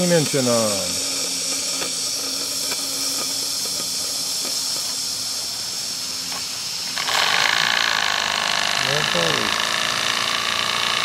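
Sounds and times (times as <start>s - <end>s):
steam hissing from relief valve: 0.0s - 11.0s.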